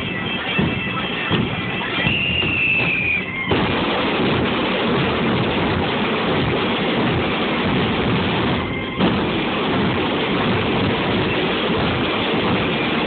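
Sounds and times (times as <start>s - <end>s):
bass and snare drums pounding: 0.0s - 13.0s.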